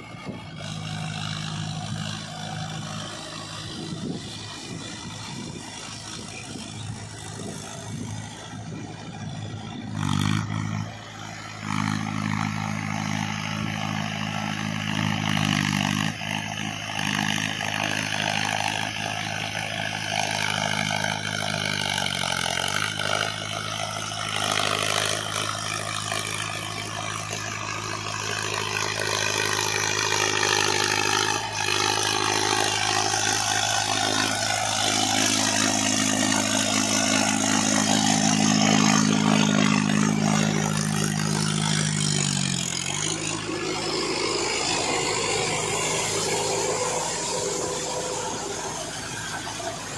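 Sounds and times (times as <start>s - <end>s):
rotary tiller churning mud: 0.0s - 49.9s
tractor diesel engine under load: 0.0s - 49.9s.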